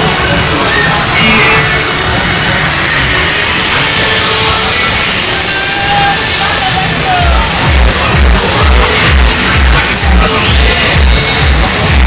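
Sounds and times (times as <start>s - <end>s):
loud music over sound system: 0.0s - 12.0s.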